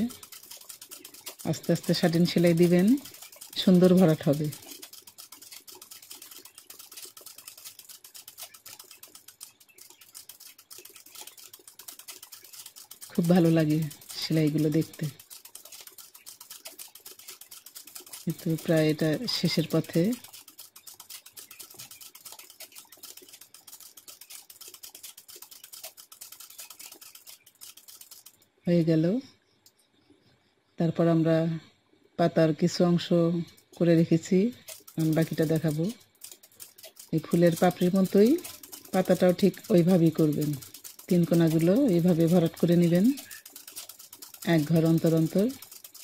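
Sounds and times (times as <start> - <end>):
sewing machine stitching: 0.0 - 28.4, 33.4 - 46.0.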